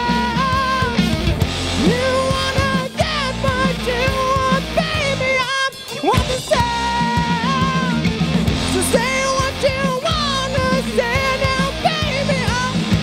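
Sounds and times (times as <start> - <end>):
bending lead guitar melody: 0.0 - 13.0
live rock band playing: 0.0 - 13.0.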